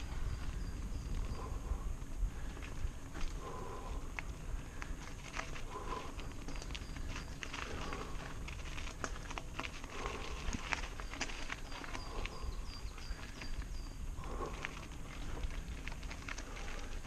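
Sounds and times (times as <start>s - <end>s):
bike rattling: 0.0s - 17.0s
bike tyres crunching on gravel: 0.0s - 17.0s
wind rumble on microphone: 0.0s - 17.0s.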